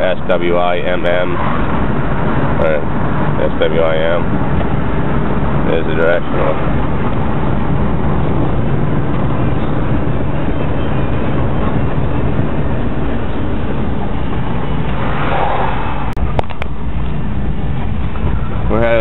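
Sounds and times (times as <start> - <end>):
car cabin road and engine noise: 0.0 - 19.0.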